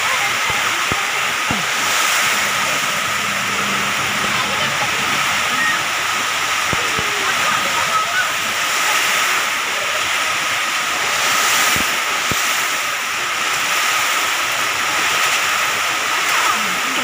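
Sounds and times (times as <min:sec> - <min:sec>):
heavy rain in strong wind: 0:00.0 - 0:17.0.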